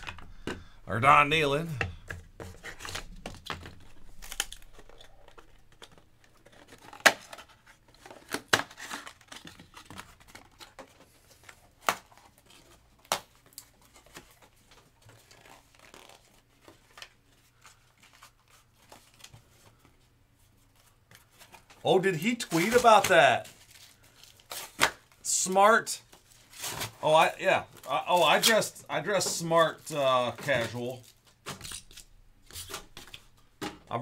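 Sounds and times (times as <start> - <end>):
packaging crinkling and rustling: 2.0 - 19.8, 20.6 - 33.7.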